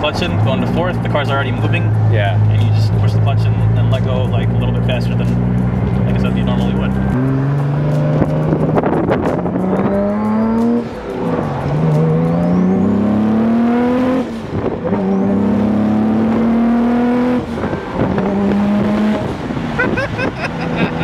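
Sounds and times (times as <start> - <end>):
car engine accelerating through gears: 0.0 - 21.0.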